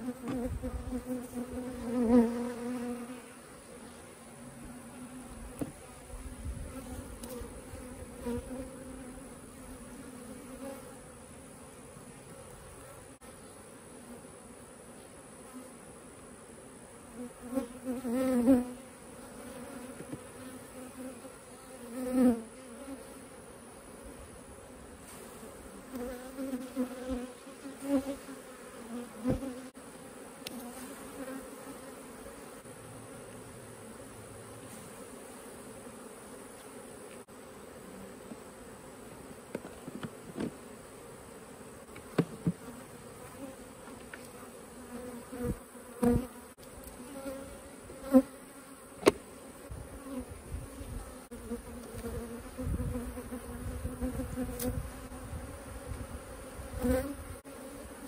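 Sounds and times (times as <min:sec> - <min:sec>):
honey bees buzzing: 0:00.0 - 0:58.0.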